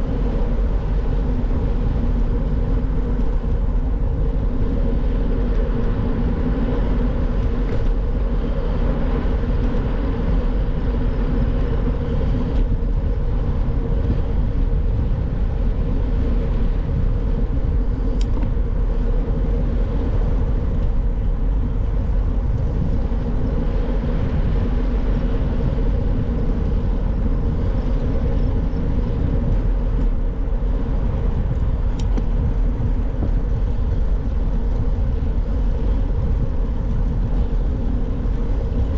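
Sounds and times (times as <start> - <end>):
bicycle tyre hum: 0.0 - 38.9
wind rush on microphone: 0.0 - 38.9.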